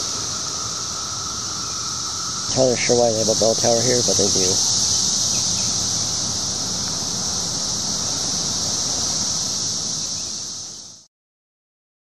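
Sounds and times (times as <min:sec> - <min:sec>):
cicadas droning: 0:00.0 - 0:11.1.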